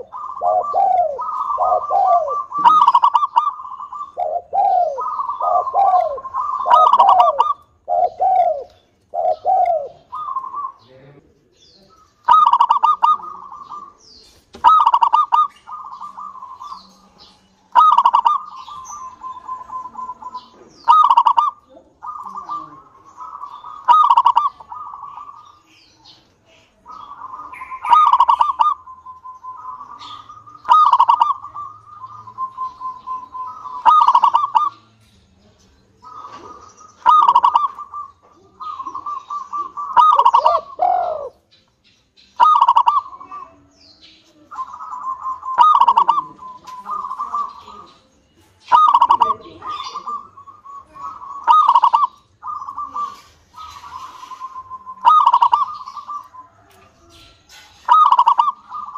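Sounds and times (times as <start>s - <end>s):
dove cooing: 0.0s - 34.9s, 36.0s - 41.6s, 42.4s - 58.9s.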